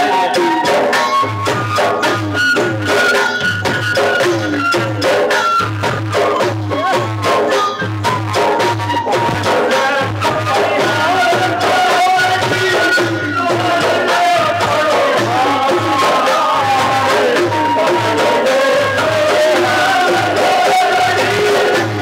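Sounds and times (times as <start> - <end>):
flute melody: 0.0 - 22.0
frame drums beating: 0.0 - 22.0.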